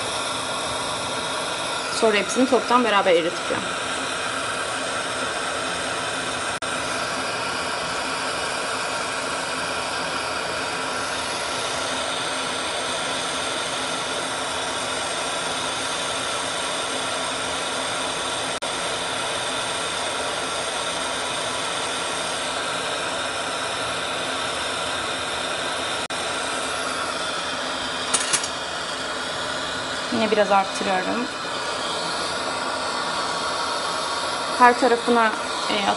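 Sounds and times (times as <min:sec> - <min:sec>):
torch flame hissing: 0:00.0 - 0:35.9.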